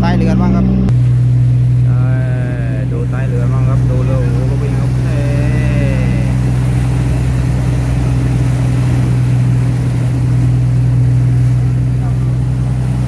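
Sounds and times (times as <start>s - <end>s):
boat engine droning: 0.0s - 13.0s
wake and waves rushing: 0.0s - 13.0s.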